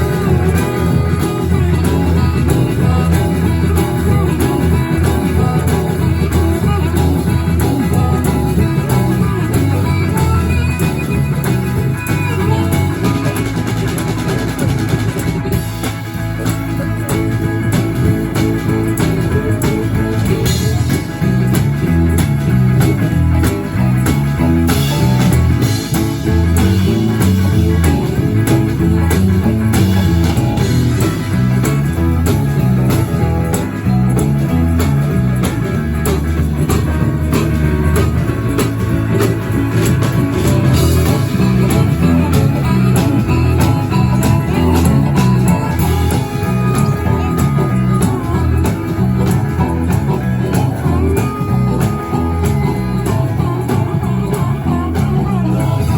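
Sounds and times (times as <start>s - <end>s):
blues band playing live: 0.0s - 55.9s
drums: 0.0s - 55.9s
guitar: 0.0s - 55.9s
repeating bass line: 0.0s - 55.9s.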